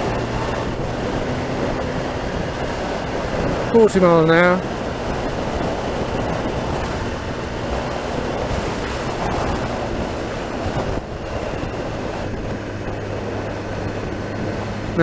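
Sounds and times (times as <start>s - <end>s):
low motorcycle engine hum: 0.0s - 15.0s
wind rush over helmet: 0.0s - 15.0s.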